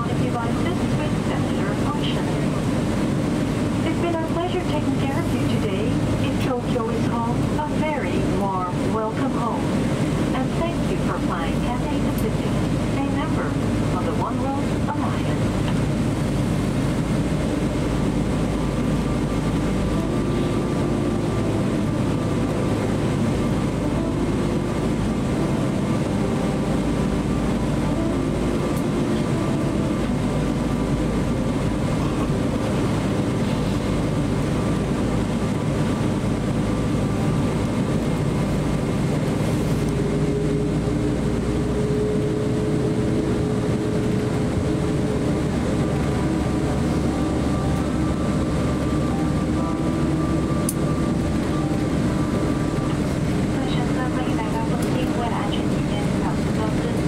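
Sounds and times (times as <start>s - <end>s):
airplane cabin rumble: 0.0s - 57.0s
faint steady hum: 0.0s - 57.0s.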